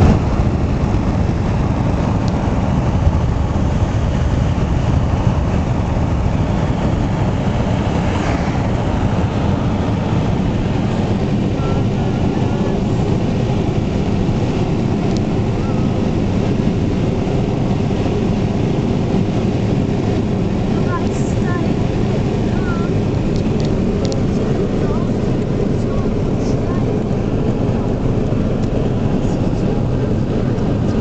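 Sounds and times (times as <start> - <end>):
car cabin road and engine rumble: 0.0 - 31.0.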